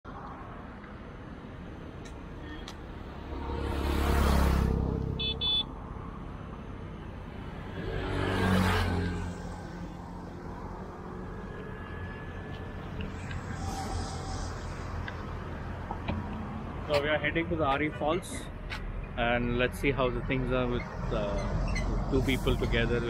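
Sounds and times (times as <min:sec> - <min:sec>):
road vehicles passing: 0:00.1 - 0:23.0.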